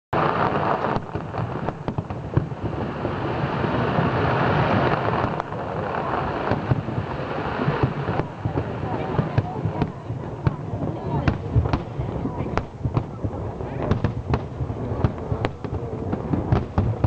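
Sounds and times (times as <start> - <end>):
fireworks bangs and crackling: 0.1 - 17.0.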